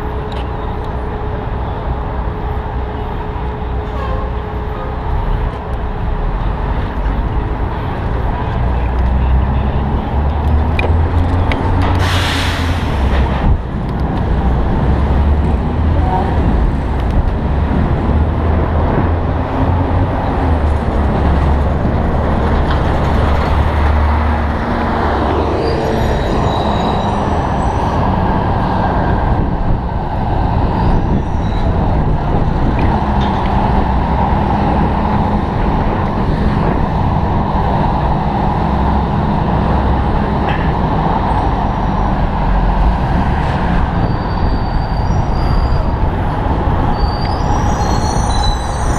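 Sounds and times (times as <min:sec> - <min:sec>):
heavy low rumble: 0:00.0 - 0:47.6
city street traffic: 0:00.0 - 0:48.9.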